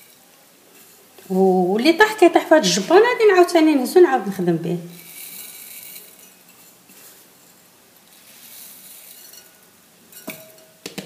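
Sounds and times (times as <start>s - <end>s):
sprinkles rustling softly: 0.0s - 3.9s, 4.8s - 10.3s.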